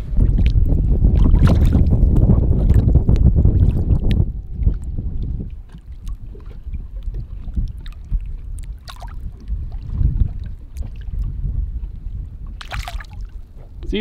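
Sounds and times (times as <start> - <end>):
water splashing and sloshing: 0.0 - 14.0
wind buffeting microphone: 0.0 - 14.0.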